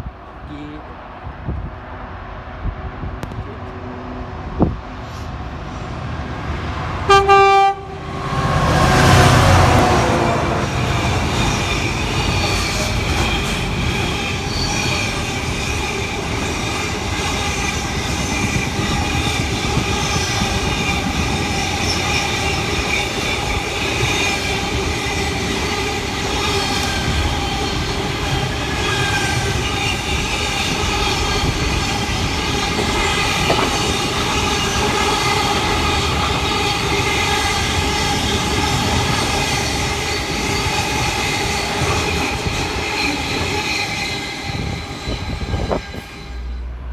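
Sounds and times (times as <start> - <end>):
train rumbling by: 0.0 - 46.9
wheels squealing on rails: 8.2 - 46.9.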